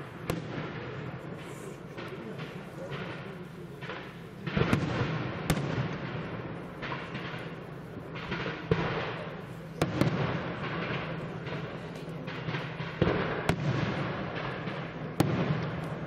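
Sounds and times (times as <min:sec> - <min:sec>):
sharp firework bangs: 0:00.0 - 0:16.0.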